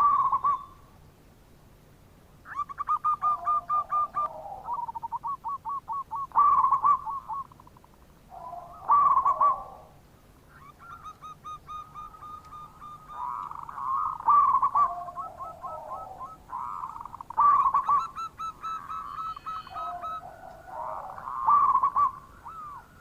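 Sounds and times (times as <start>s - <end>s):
dove cooing: 0.0s - 0.8s, 2.5s - 23.0s.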